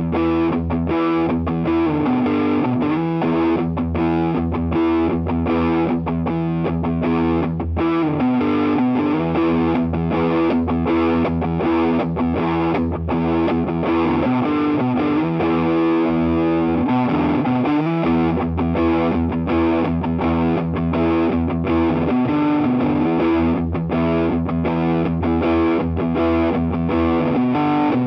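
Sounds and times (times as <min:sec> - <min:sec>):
distorted electric guitar chords: 0:00.0 - 0:28.0.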